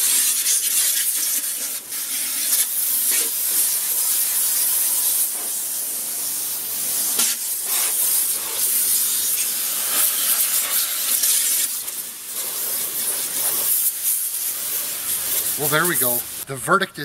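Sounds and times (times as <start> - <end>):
pressure washer water hissing: 0.0 - 16.6.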